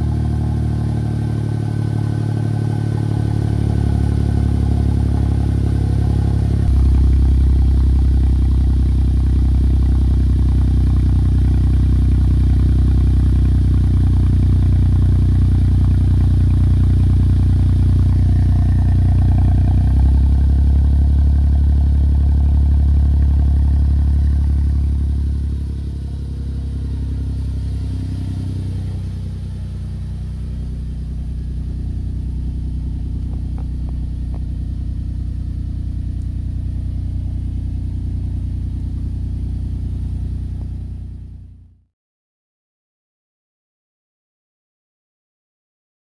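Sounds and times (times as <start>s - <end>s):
car engine idling: 0.0s - 41.8s.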